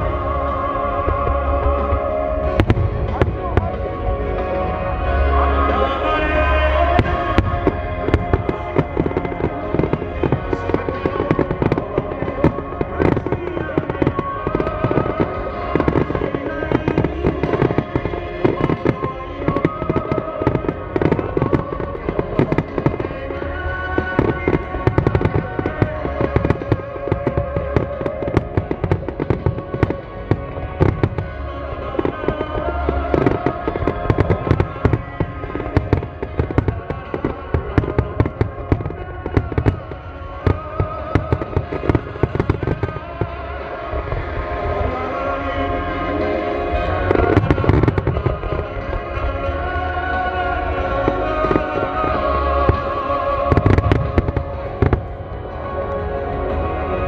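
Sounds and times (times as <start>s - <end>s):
fireworks cracking and booming: 0.0s - 57.0s
music playing: 0.0s - 57.0s.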